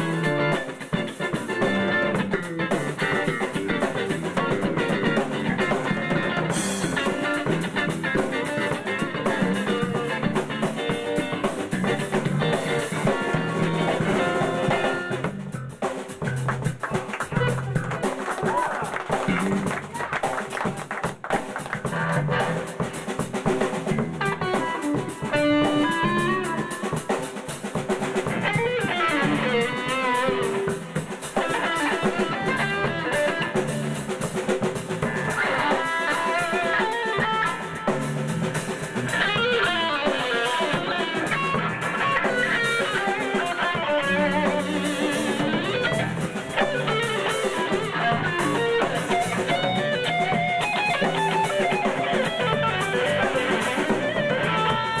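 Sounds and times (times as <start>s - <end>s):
drum kit: 0.0s - 55.0s
electric guitar lead: 0.0s - 55.0s.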